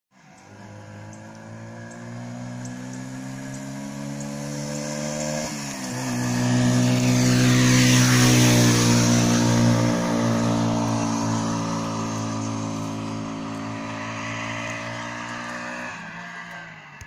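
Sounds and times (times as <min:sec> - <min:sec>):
moped engine revving: 0:00.4 - 0:17.0.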